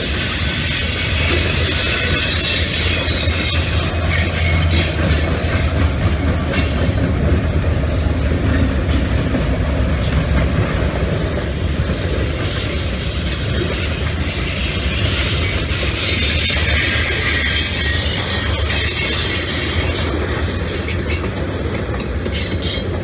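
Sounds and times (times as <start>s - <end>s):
freight train rumbling past: 0.0s - 23.0s
wheels clicking over rail joints: 0.0s - 23.0s.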